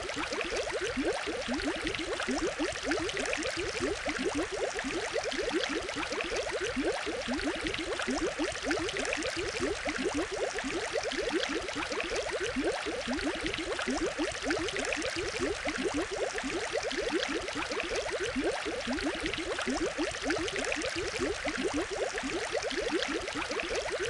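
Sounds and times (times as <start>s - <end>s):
aquarium water bubbling: 0.0s - 24.0s.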